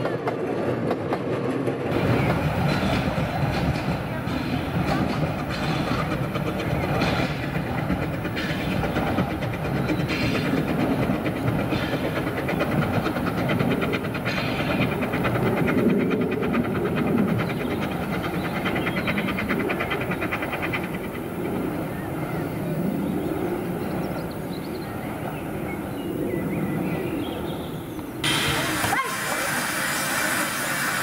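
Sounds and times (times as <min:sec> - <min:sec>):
steam train rumbling and clattering: 0:00.0 - 0:31.0.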